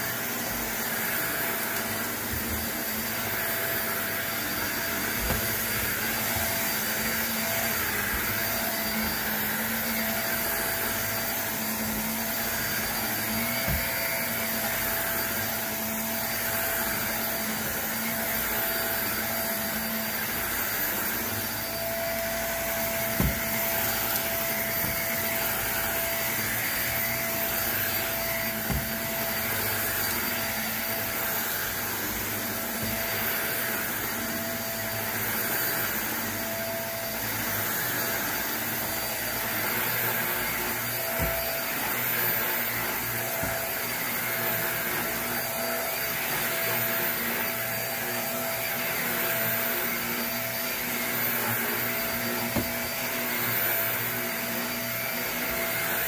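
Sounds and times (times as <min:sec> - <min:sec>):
upright vacuum cleaner running: 0:00.0 - 0:56.0.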